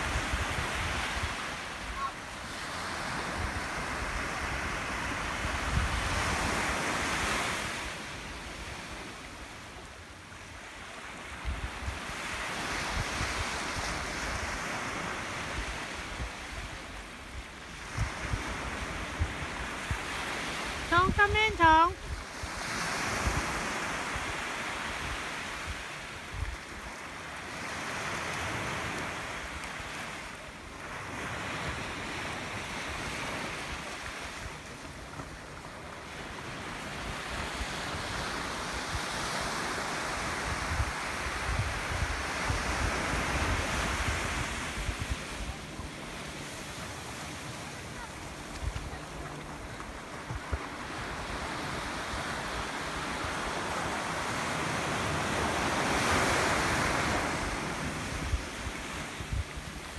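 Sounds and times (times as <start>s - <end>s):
wind buffeting the microphone: 0.0s - 1.5s, 2.9s - 7.8s, 11.3s - 29.9s, 36.4s - 59.9s
waves washing up a beach: 0.0s - 59.9s.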